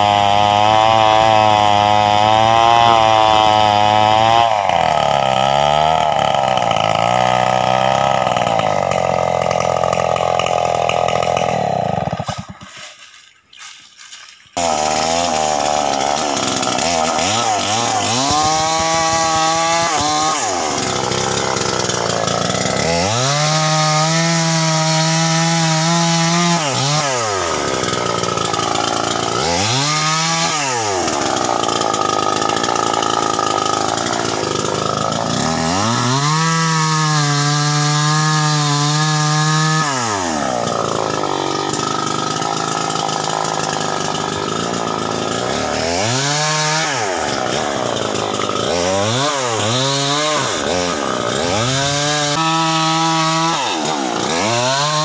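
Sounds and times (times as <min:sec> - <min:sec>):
chainsaw revving and cutting wood: 0:00.0 - 0:55.0.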